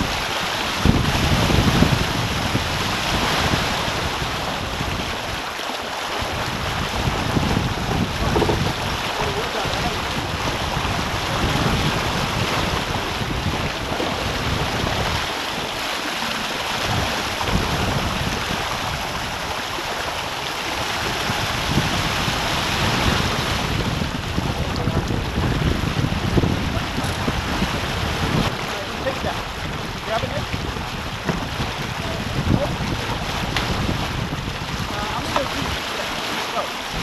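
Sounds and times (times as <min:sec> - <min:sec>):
water rushing along boat hull: 0:00.0 - 0:37.0
wind noise on microphone: 0:00.0 - 0:37.0.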